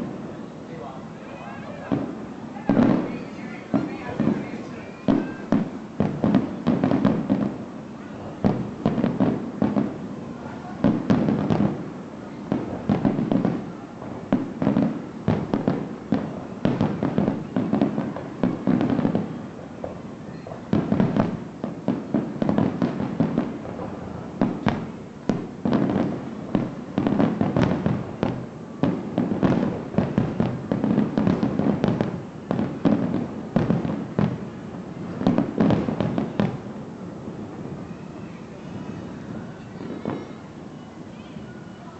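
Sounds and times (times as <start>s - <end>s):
fireworks bursting and crackling: 0.0s - 41.9s.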